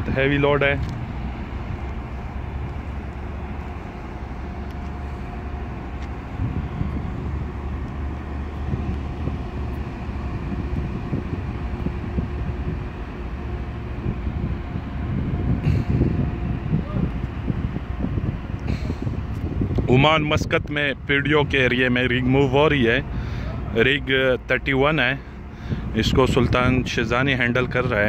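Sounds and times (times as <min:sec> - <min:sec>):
truck diesel engines rumbling: 0:00.0 - 0:28.0.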